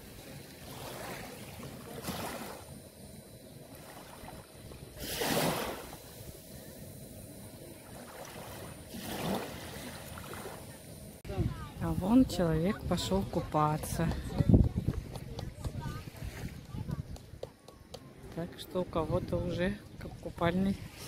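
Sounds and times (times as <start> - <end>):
small waves washing on shore: 0.0 - 21.0.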